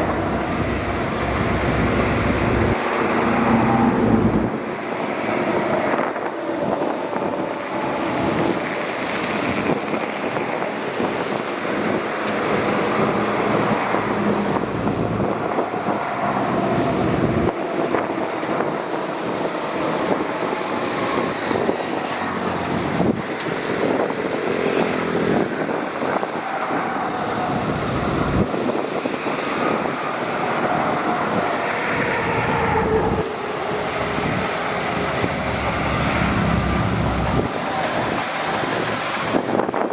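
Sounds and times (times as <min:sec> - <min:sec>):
bulldozer diesel engine under load: 0:00.0 - 0:29.1, 0:29.7 - 0:39.9.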